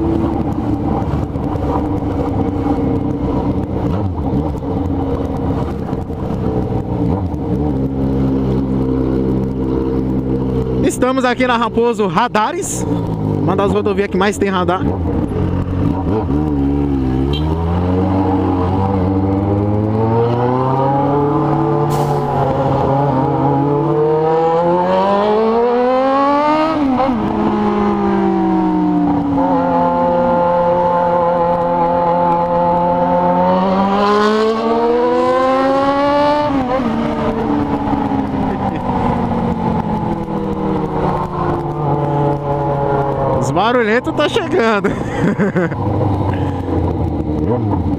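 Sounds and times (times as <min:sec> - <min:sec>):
motorcycle engine accelerating: 0:00.0 - 0:12.1, 0:12.8 - 0:47.9.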